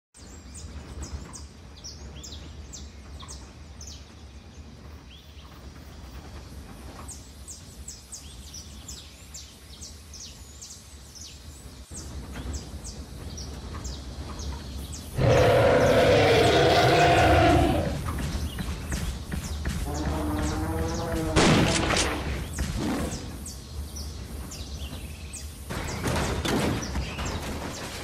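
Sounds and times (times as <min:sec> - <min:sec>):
birds chirping: 0:00.2 - 0:28.0.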